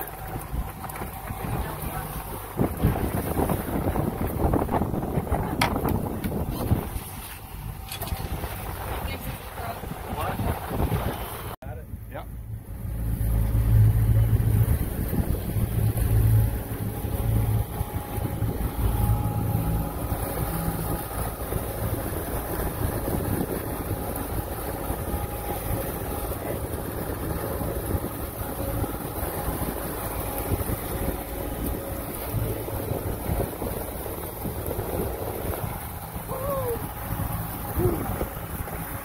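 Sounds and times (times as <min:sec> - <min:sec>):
outboard motor rumble: 0:00.0 - 0:39.0
water rushing: 0:00.0 - 0:39.0
wind on microphone: 0:00.0 - 0:39.0.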